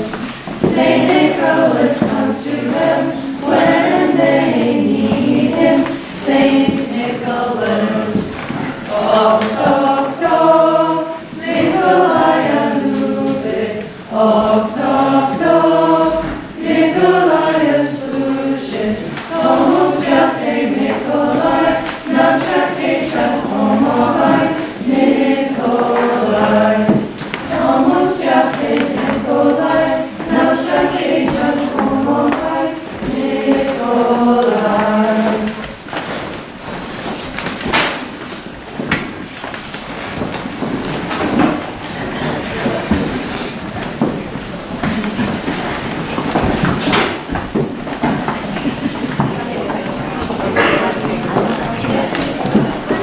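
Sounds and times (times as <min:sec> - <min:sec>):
choir singing: 0:00.0 - 0:35.9, 0:41.0 - 0:47.2, 0:48.6 - 0:53.0.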